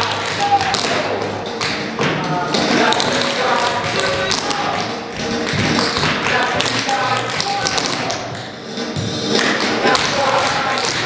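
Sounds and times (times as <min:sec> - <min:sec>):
recorded music: 0:00.0 - 0:11.0.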